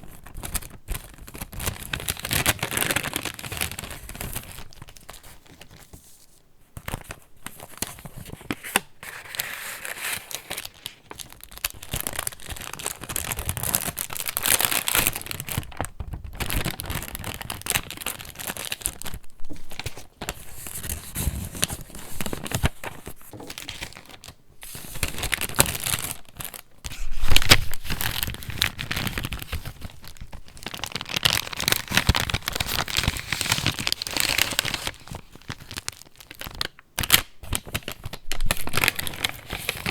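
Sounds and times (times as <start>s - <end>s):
paper pages rustling and crinkling: 0.0s - 39.9s.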